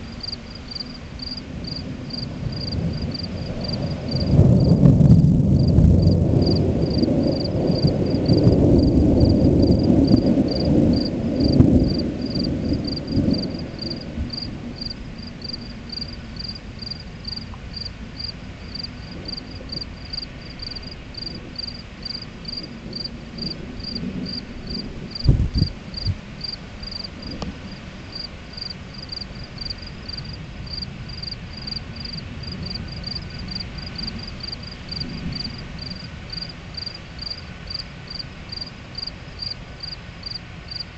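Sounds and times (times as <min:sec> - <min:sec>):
crickets chirping: 0:00.0 - 0:04.9, 0:05.6 - 0:40.9
thunder rumbling: 0:00.0 - 0:40.8.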